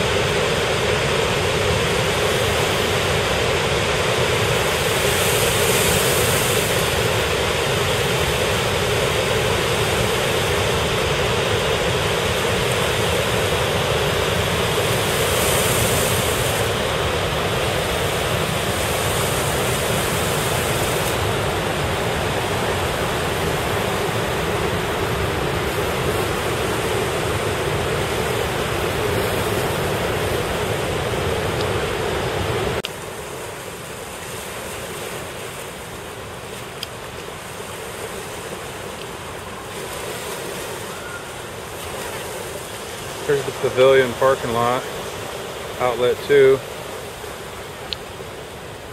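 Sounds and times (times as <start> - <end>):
floodwater rushing: 0.0 - 48.9.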